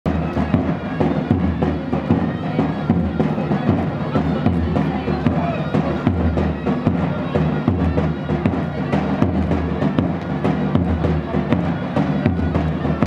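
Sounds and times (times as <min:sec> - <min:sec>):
big drum strokes: 0:00.1 - 0:13.0
reedy wind instrument melody: 0:00.1 - 0:13.0.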